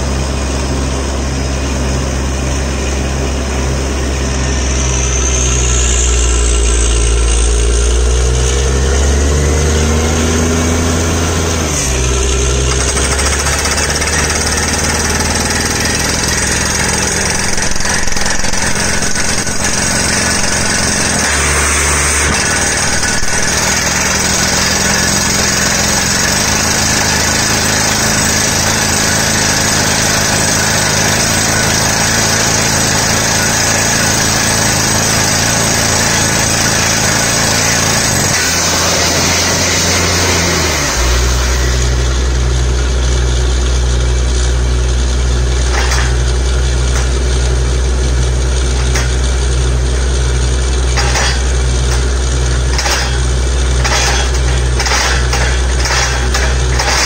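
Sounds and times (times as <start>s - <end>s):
drilling rig engine running: 0.0s - 57.0s.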